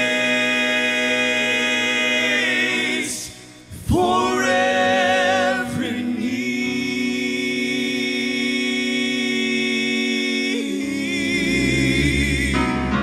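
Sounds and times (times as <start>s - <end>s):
male quartet singing harmony: 0.0s - 13.0s.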